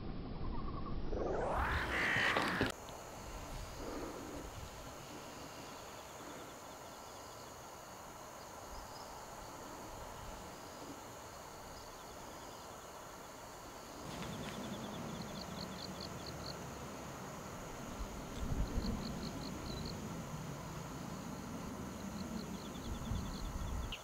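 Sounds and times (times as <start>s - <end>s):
insects trilling: 1.2s - 24.0s.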